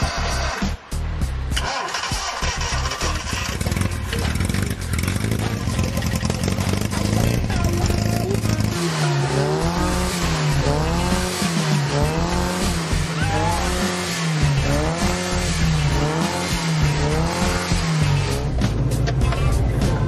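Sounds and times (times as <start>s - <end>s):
small car engine revving: 1.6s - 19.2s.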